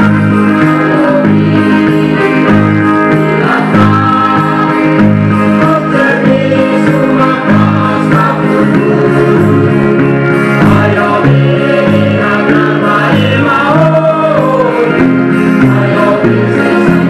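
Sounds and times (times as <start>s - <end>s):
bass line: 0.0s - 17.0s
instrumental backing: 0.0s - 17.0s
person singing: 0.0s - 17.0s.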